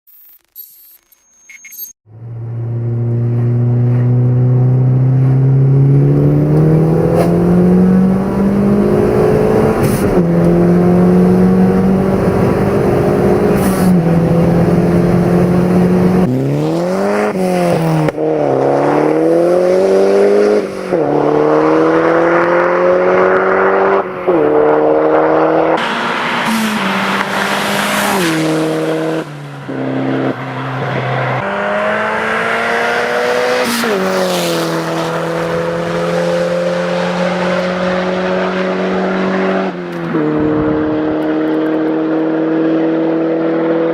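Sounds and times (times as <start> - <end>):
car engine accelerating hard: 2.1 - 43.9.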